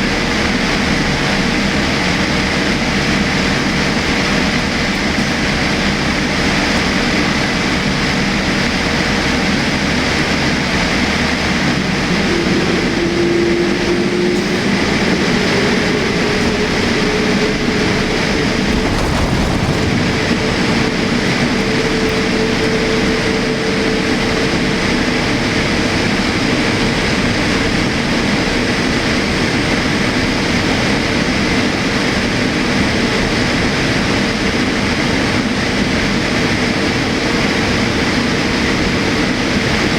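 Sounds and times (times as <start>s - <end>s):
jet engine and airflow noise: 0.0s - 39.9s.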